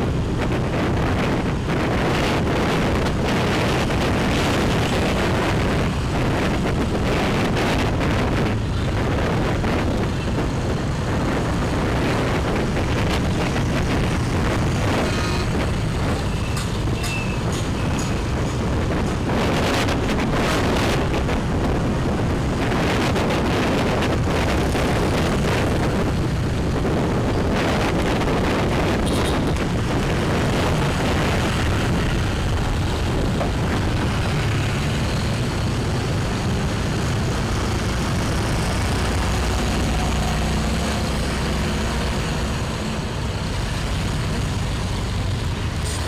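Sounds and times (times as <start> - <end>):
wind rushing on microphone: 0.0 - 46.0.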